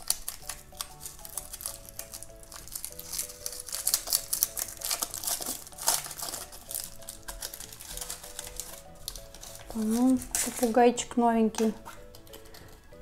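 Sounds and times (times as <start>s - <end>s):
packaging crinkling and tearing: 0.0s - 10.8s, 11.5s - 13.0s
soft background music: 0.0s - 13.0s.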